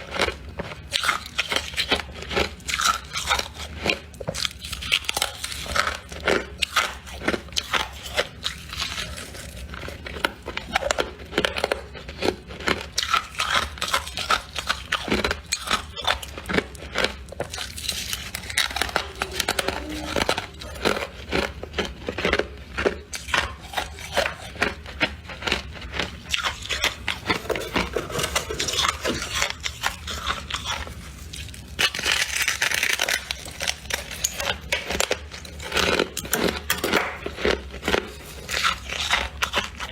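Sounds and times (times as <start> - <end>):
crunching frost while chewing: 0.0 - 39.9.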